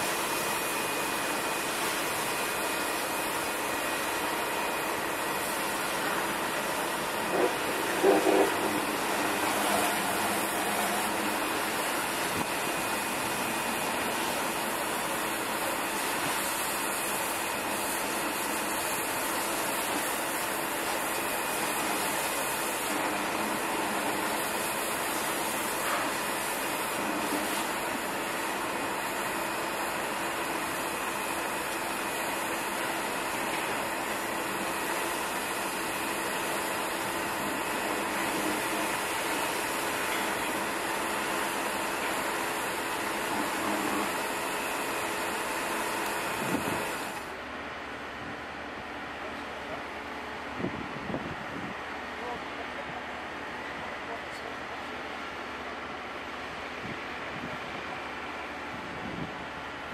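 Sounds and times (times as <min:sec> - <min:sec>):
construction machinery running: 0:00.0 - 0:59.9.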